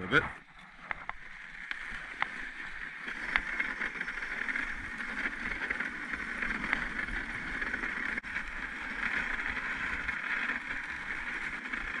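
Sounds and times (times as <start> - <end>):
sled runners scraping on snow: 0.0 - 12.0.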